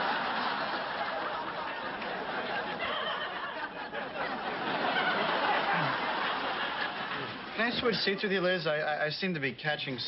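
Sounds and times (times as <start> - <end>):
studio audience laughing: 0.0 - 8.6.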